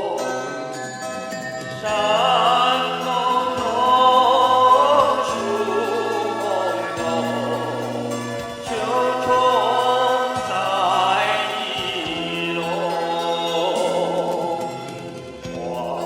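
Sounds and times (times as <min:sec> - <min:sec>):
slow music with heavy vibrato: 0:00.0 - 0:16.0.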